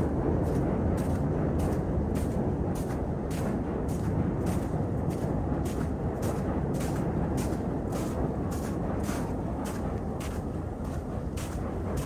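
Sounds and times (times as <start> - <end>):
footsteps crunching in snow: 1.0 - 12.0.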